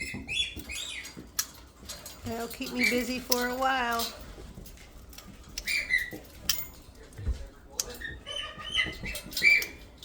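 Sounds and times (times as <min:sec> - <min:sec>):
parrot chirping and clucking: 0:00.0 - 0:10.0.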